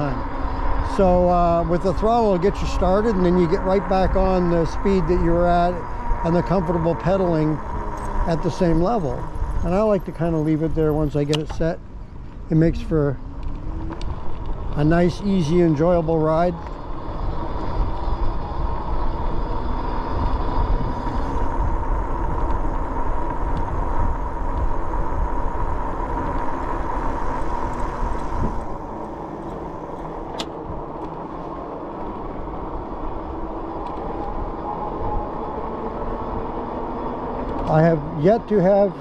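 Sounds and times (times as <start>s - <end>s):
electric motor whine: 0.0s - 10.7s, 12.2s - 39.0s
tyres rolling on pavement: 0.0s - 39.0s
wind rumble on microphone: 0.0s - 39.0s.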